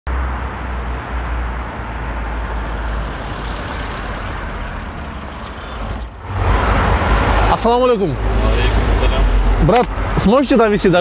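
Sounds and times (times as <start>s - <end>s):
car engine and tyre noise: 0.1s - 11.0s.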